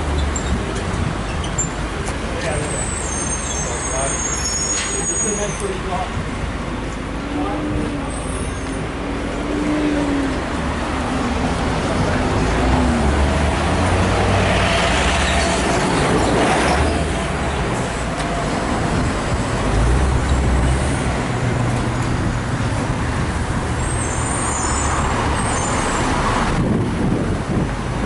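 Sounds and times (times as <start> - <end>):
bus engine: 0.0 - 28.0
road traffic passing: 0.0 - 28.0.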